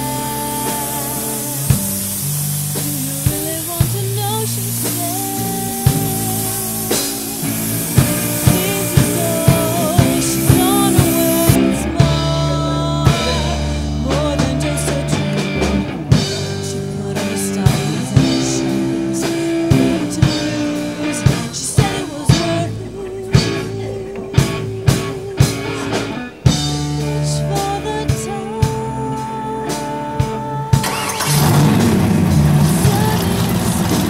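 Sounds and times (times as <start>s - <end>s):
drum kit beat: 0.0s - 34.0s
guitar: 0.0s - 34.0s
person singing: 0.0s - 34.0s.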